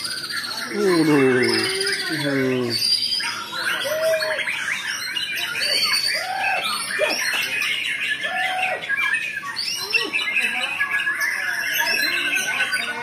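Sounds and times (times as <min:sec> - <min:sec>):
birds singing chirps and trills: 0:00.0 - 0:13.0.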